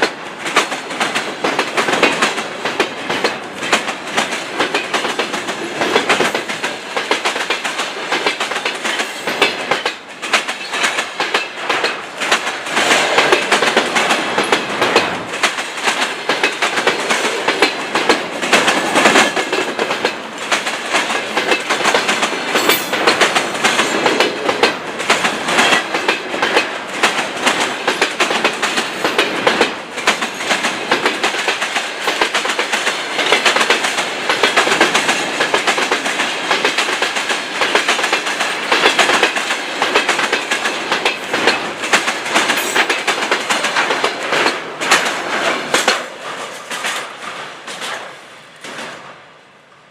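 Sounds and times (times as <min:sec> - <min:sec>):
train wheels clattering over rail joints: 0:00.0 - 0:49.3
rolling rumble of freight train: 0:00.0 - 0:49.9.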